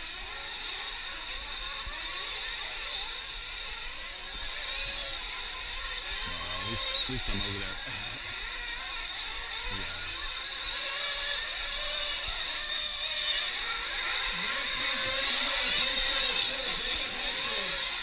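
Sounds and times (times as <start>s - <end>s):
rc truck engines whining: 0.0s - 18.0s.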